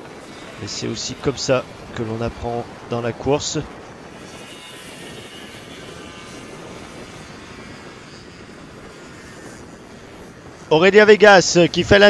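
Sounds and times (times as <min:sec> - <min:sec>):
kart engines at speed: 0:00.0 - 0:12.0.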